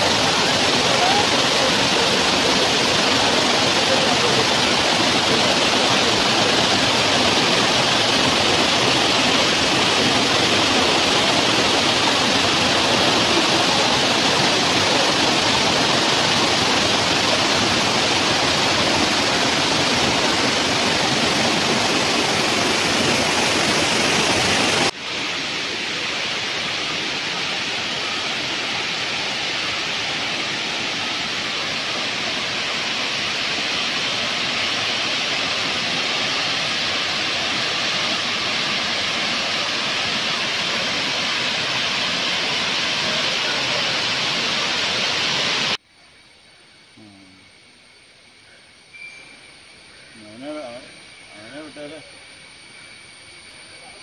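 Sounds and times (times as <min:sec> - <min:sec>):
waterfall rushing over rocks: 0:00.0 - 0:45.8.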